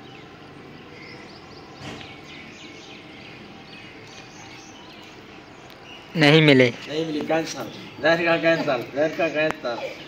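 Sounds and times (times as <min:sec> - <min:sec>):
outdoor background hum: 0:00.0 - 0:10.0
small birds chirping: 0:00.0 - 0:10.0.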